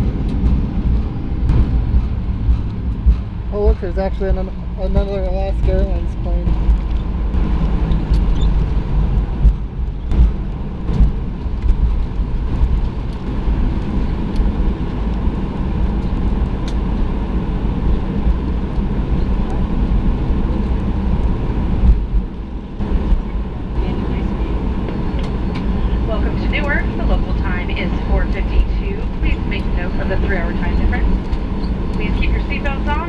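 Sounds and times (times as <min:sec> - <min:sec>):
low rumble of wheels and engines: 0:00.0 - 0:33.0.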